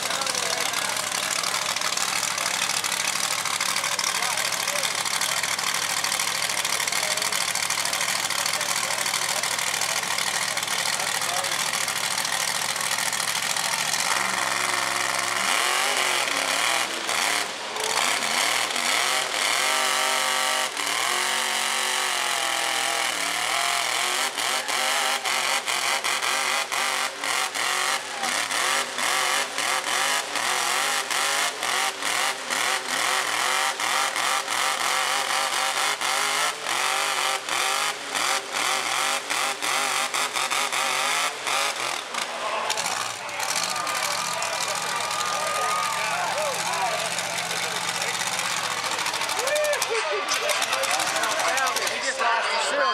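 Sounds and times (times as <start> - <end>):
truck engines at full throttle: 0.0 - 52.9.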